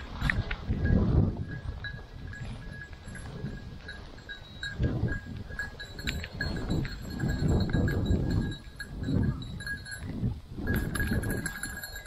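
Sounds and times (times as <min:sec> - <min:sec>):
dog collar bell jingling: 0:00.8 - 0:12.0.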